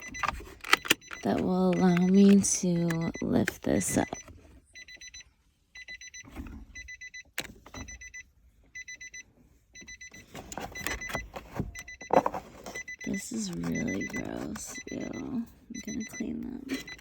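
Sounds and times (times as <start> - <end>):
car warning chime beeping: 0.0 - 17.0.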